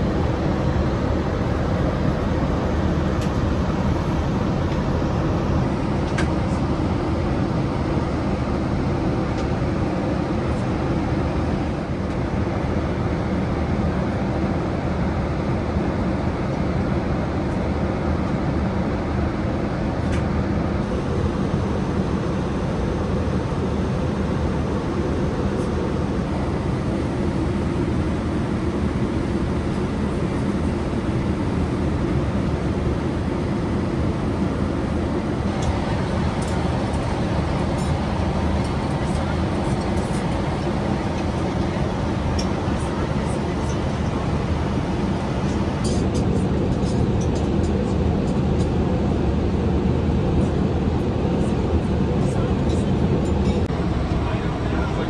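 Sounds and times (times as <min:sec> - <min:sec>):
airflow and engine noise: 0:00.0 - 0:55.0.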